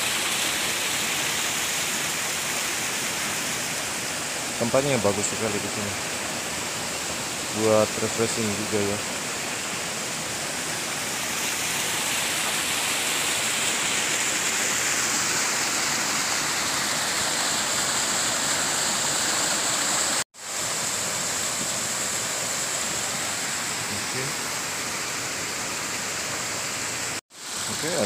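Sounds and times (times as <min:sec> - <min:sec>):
river water rushing: 0:00.0 - 0:28.0
small waterfall over rocks: 0:00.0 - 0:28.0.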